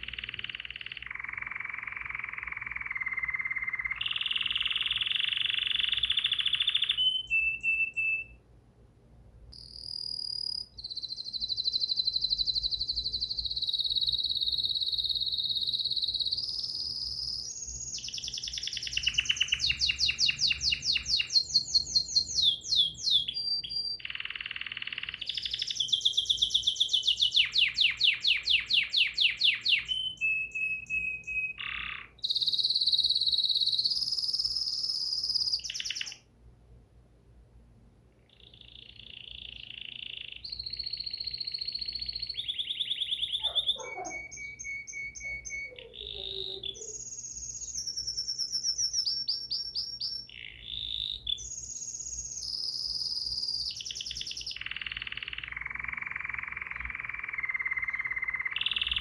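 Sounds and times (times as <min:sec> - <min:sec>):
bird singing whistles and trills: 0:00.0 - 0:08.4, 0:09.6 - 0:36.2, 0:38.3 - 0:59.0.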